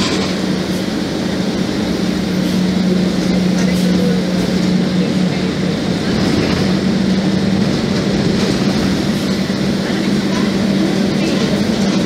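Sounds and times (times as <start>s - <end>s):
bus diesel engine droning: 0.0s - 12.0s
road and tyre noise: 0.0s - 12.0s.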